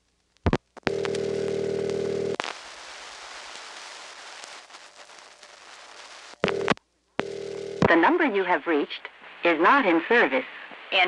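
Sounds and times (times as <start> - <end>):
crackling telephone line noise: 0.0 - 11.0.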